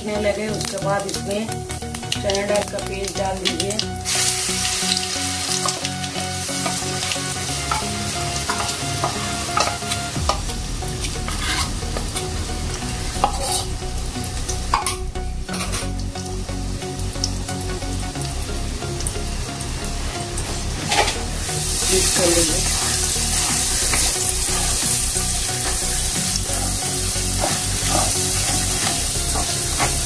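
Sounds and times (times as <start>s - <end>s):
paste sizzling in hot oil: 0.0s - 30.0s.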